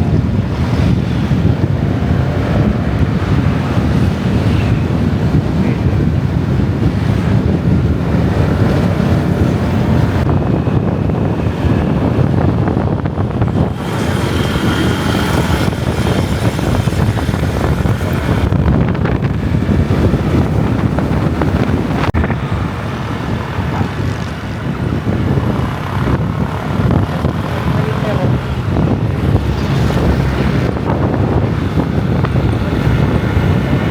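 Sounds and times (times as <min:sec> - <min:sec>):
motorbike road noise: 0:00.0 - 0:33.9
wind buffeting microphone: 0:00.0 - 0:33.9.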